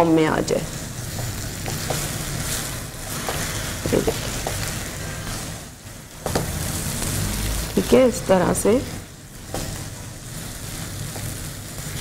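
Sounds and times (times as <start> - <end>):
food sizzling in a frying pan: 0.0 - 12.0
spatula stirring in a pan: 0.7 - 12.0.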